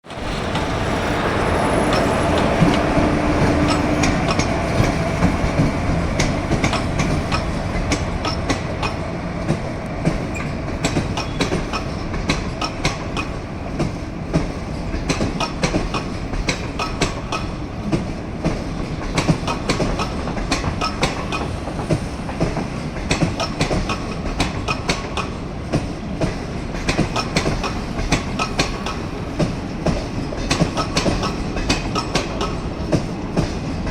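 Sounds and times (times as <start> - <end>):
train low rumble: 0.0 - 33.9
train wheels clicking over rail joints: 0.1 - 33.9.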